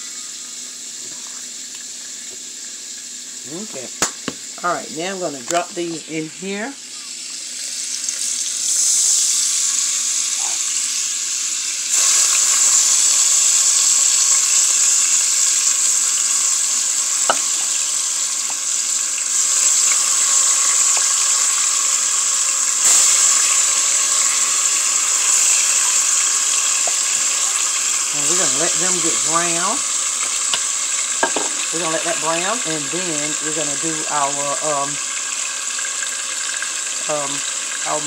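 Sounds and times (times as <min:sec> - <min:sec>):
chicken sizzling in hot oil: 0:00.0 - 0:38.0.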